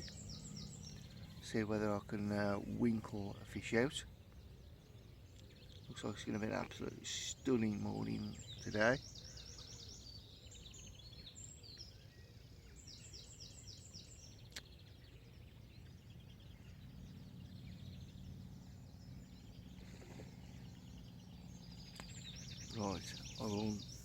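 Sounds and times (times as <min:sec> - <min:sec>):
faint birdsong: 0:00.0 - 0:24.0
low steady hum: 0:00.0 - 0:24.0.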